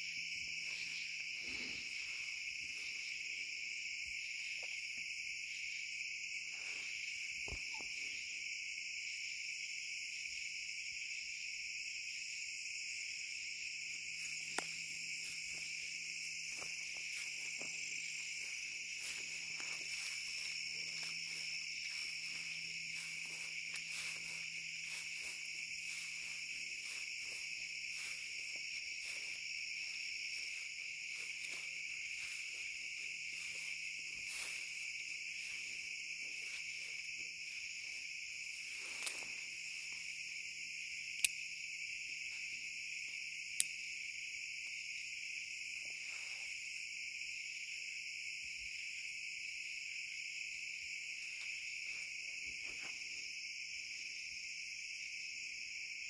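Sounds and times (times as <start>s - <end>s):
night insects chirring: 0.0s - 56.0s.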